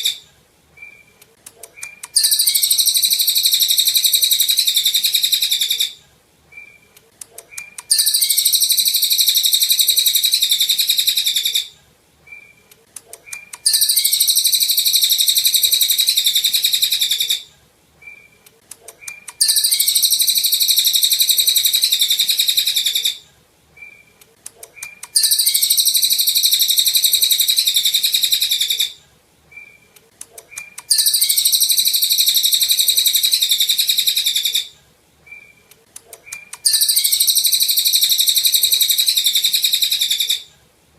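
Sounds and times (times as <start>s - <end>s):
songbird singing: 0.0s - 40.5s.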